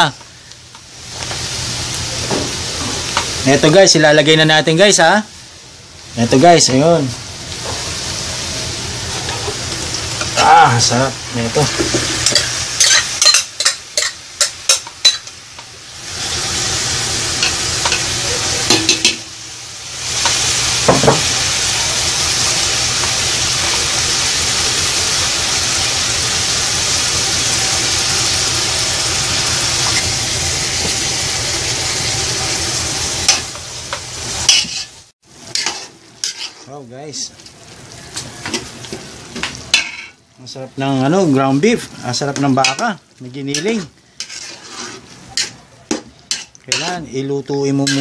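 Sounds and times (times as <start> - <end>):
meat sizzling in a pot: 0.0 - 48.0.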